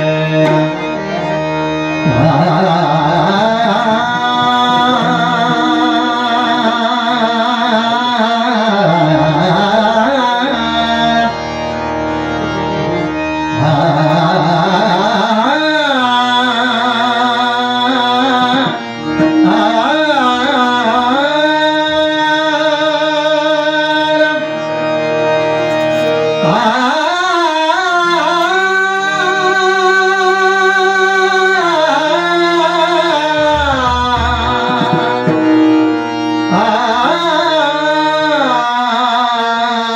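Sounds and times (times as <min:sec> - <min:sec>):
harmonium held notes: 0:00.0 - 0:39.9
person singing wordless melody: 0:00.0 - 0:39.9.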